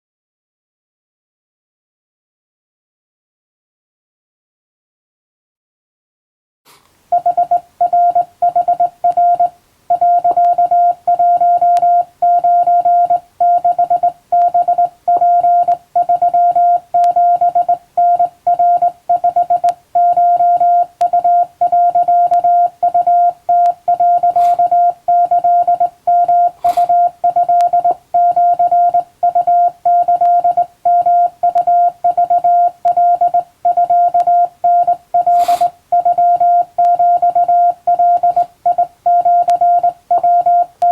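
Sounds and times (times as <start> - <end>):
morse code beeps: 7.1 - 40.9.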